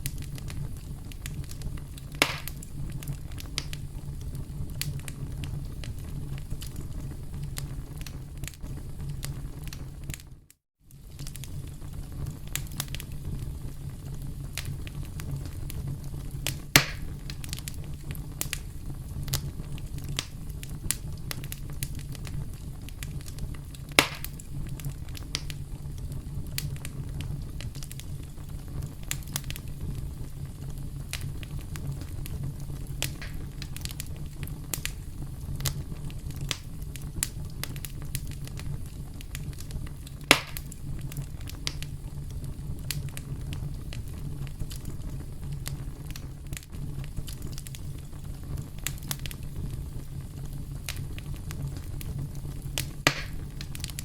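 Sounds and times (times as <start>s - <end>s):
campfire crackling: 0.0s - 54.0s
loud fire snaps: 0.0s - 54.0s.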